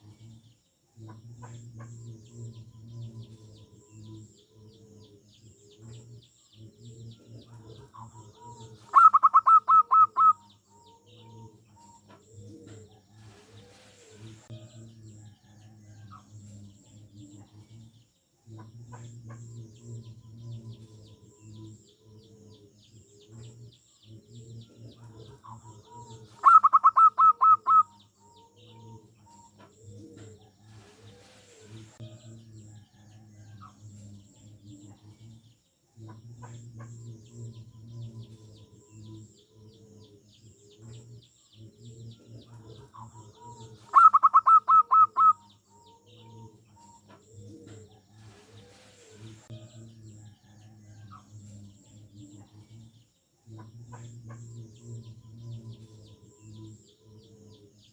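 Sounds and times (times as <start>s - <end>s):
dove staccato cooing song: 0.0s - 57.9s
faint high bird chirps: 1.4s - 17.9s, 18.6s - 35.4s, 36.1s - 53.0s.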